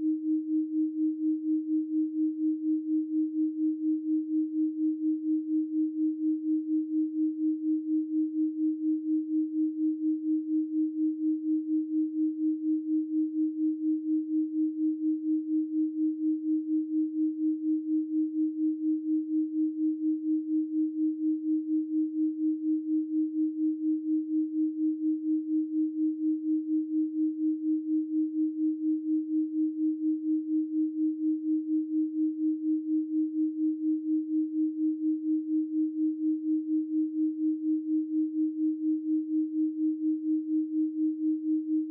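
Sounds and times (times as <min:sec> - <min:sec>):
pulsing pure sine tone: 0:00.0 - 0:41.9.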